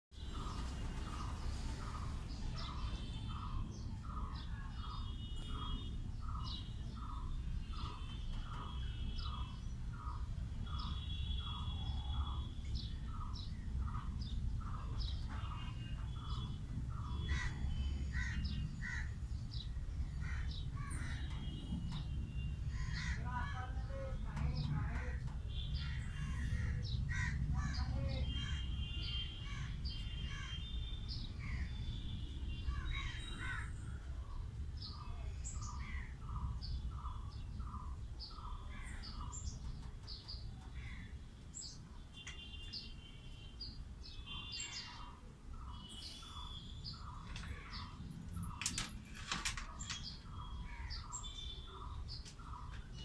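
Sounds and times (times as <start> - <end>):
birds chirping: 0.2 - 53.0.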